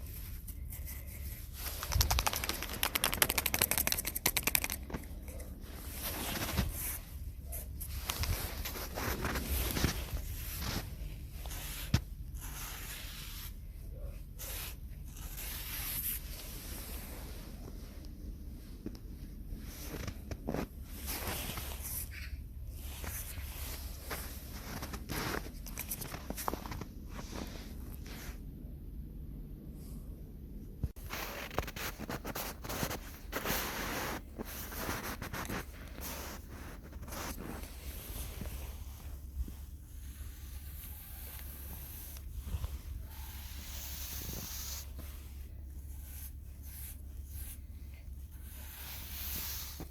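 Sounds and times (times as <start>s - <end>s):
rubbing and scraping handling noises: 0.0s - 28.5s, 30.8s - 49.9s.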